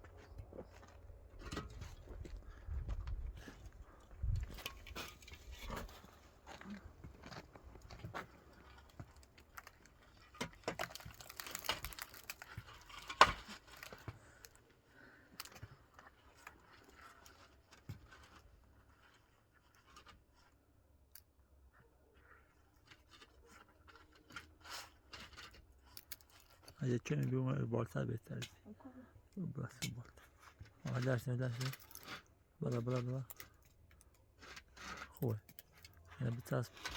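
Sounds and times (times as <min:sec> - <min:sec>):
scrapes and knocks of blocks and mortar: 0:00.0 - 0:27.5, 0:29.5 - 0:36.9.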